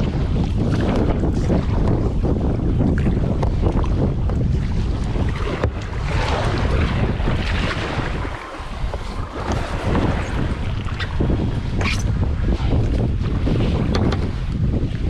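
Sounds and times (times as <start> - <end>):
water splashing around hull: 0.0 - 15.0
wind buffeting microphone: 0.0 - 15.0.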